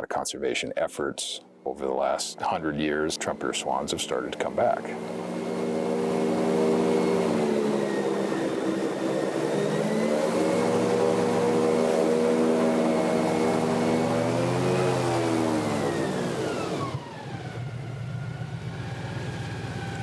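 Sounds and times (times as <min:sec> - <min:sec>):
airboat engine drone: 0:01.4 - 0:20.0.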